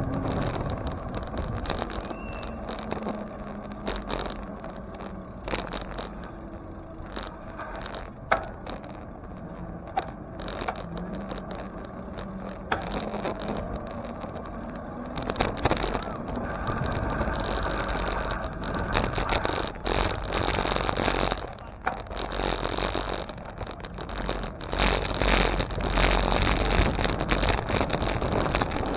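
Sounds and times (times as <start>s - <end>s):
passing vehicles: 0.0s - 28.9s
wind buffeting on microphone: 0.0s - 28.9s
wind rush: 0.0s - 28.9s.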